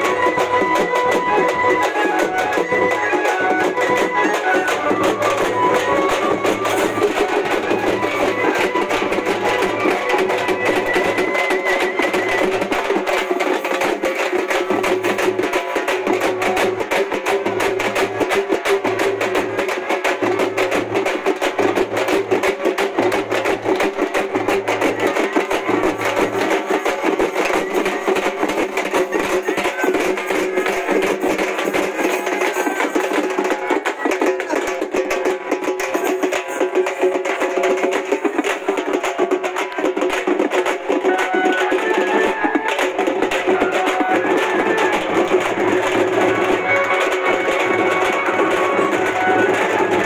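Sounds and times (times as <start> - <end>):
fast percussion beat: 0.0 - 50.0.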